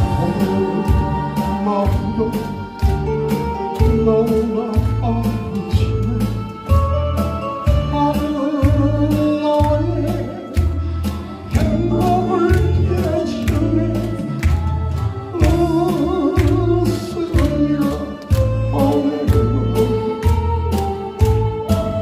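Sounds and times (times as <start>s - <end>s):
man singing into microphone: 0.0s - 6.9s, 7.6s - 10.7s, 11.4s - 14.6s, 15.3s - 20.8s
amplified accompaniment with bass beat: 0.0s - 22.0s.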